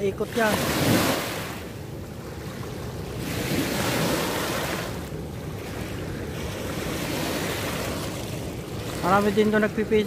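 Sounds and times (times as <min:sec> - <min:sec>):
water rushing and churning: 0:00.0 - 0:10.0
wind on microphone: 0:00.0 - 0:10.0.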